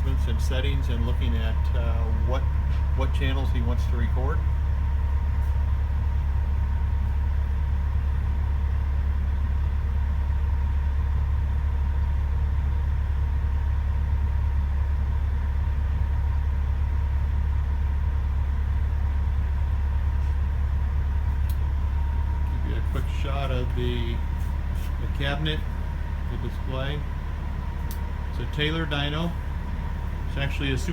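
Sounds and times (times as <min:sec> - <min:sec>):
truck engine idling: 0:00.0 - 0:30.9.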